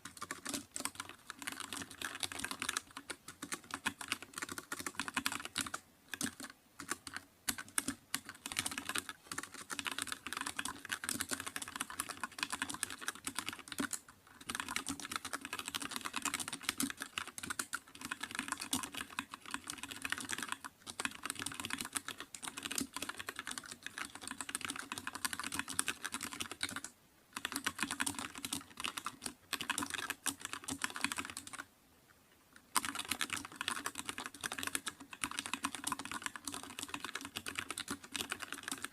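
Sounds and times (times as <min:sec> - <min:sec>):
fast typing on keyboard: 0:00.0 - 0:31.7, 0:32.7 - 0:38.9.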